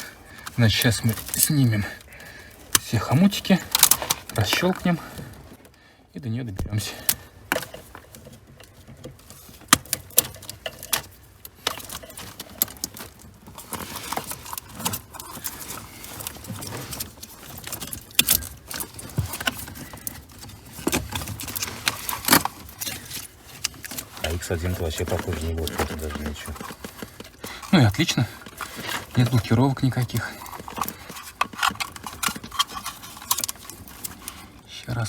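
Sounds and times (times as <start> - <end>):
rustling: 0.0 - 5.9, 6.6 - 35.0.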